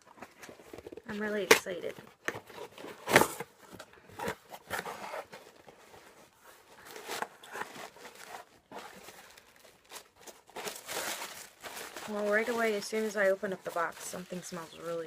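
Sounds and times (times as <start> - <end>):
cardboard box being opened: 0.1 - 12.7.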